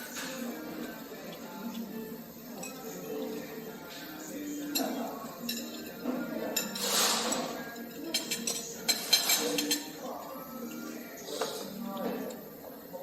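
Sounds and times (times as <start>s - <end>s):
tableware clinking: 0.0s - 12.4s.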